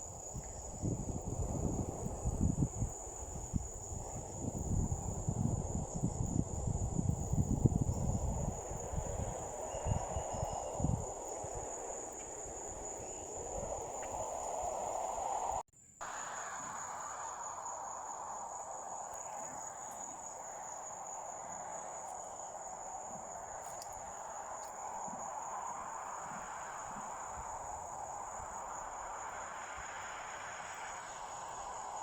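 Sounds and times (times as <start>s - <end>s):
crickets trilling: 0.0s - 32.0s
low rushing hiss: 0.0s - 32.0s.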